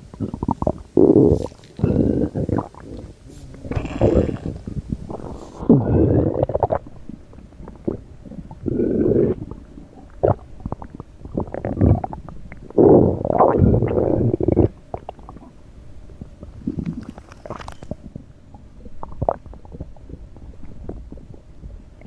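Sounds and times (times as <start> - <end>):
stomach growling and gurgling: 0.0 - 22.0.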